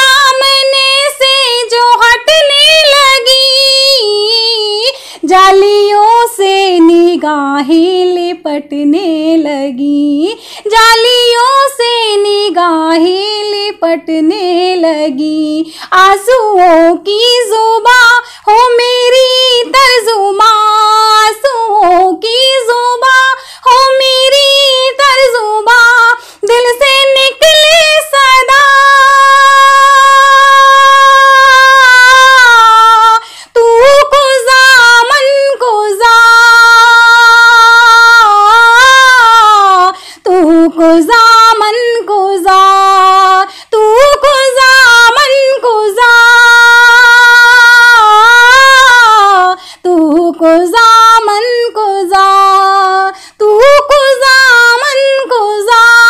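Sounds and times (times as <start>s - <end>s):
woman singing unaccompanied: 0.0s - 56.0s.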